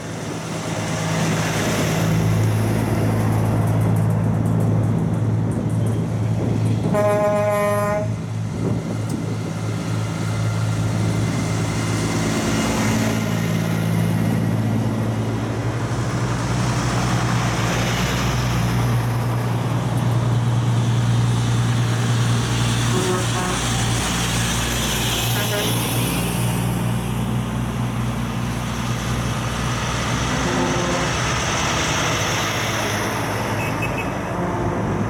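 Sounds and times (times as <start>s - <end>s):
diesel truck engines droning: 0.0s - 35.0s
road noise of passing trucks: 0.0s - 35.0s.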